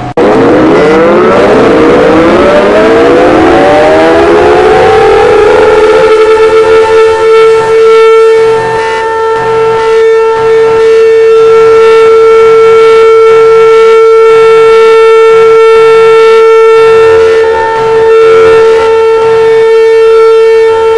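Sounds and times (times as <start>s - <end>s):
emergency siren tone: 0.0s - 20.9s.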